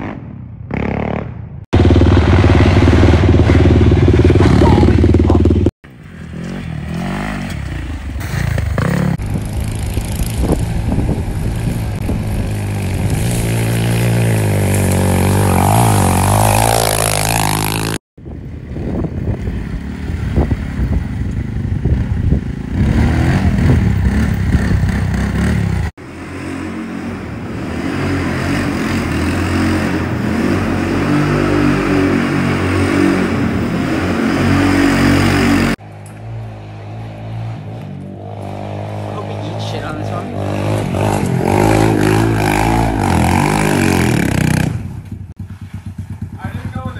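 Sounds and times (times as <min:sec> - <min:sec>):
quad engines revving: 0:00.0 - 0:18.0, 0:18.9 - 0:46.9.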